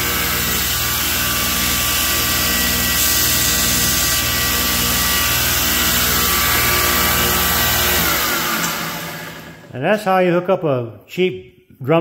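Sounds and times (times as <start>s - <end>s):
abrasive belt whirring: 0.0s - 9.7s
electric motor humming: 0.0s - 9.7s.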